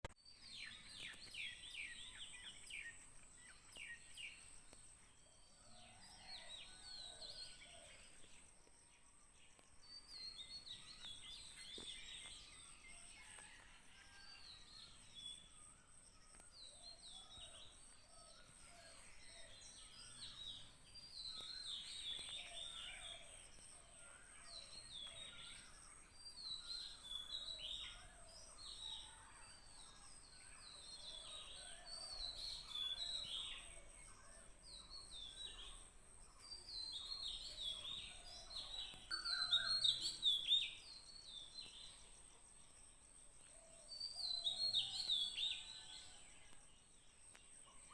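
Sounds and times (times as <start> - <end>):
birds chirping and twittering: 0.3 - 47.9.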